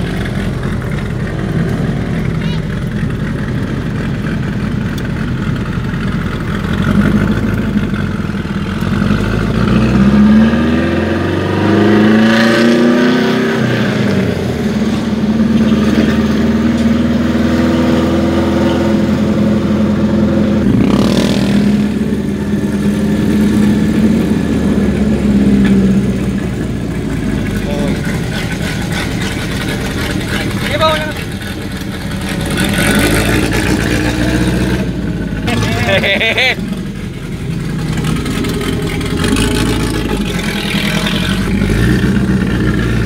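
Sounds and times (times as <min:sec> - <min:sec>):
car engine and exhaust revving: 0:00.0 - 0:43.0.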